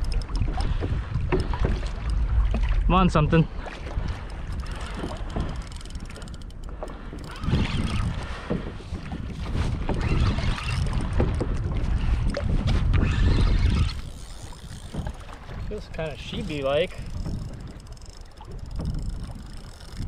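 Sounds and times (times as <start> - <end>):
water lapping against hull: 0.0 - 20.0
wind buffeting microphone: 0.0 - 20.0.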